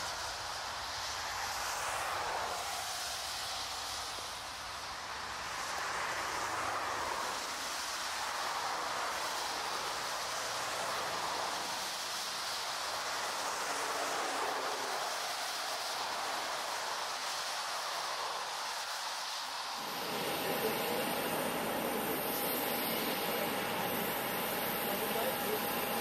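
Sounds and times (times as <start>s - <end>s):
jet engine roar: 0.0s - 26.0s
tyre spray hiss: 0.0s - 26.0s.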